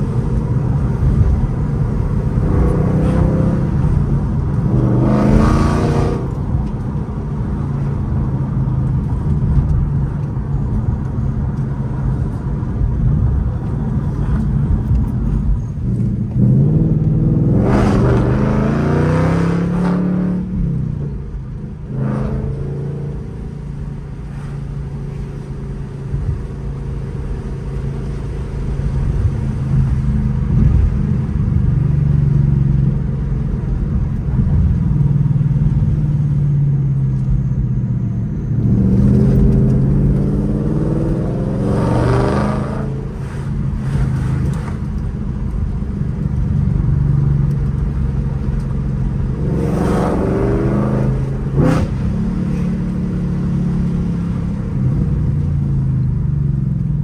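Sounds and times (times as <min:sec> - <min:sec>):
car engine revving inside cabin: 0:00.0 - 0:31.4, 0:38.1 - 0:57.0.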